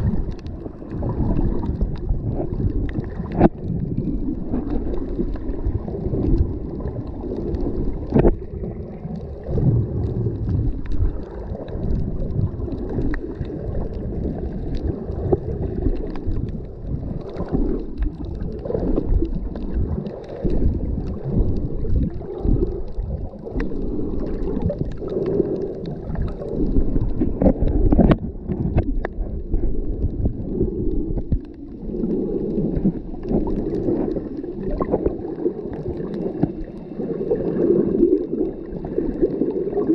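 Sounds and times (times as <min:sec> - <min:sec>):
sharp clicks and crackles: 0:00.0 - 0:36.9
muffled underwater water rushing: 0:00.0 - 0:39.9.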